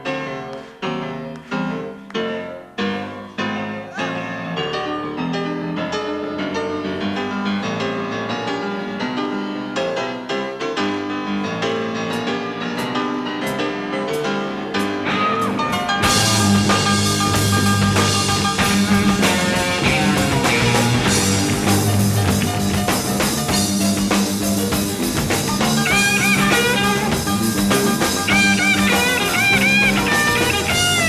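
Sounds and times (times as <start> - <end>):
solo piano: 0.0 - 31.0.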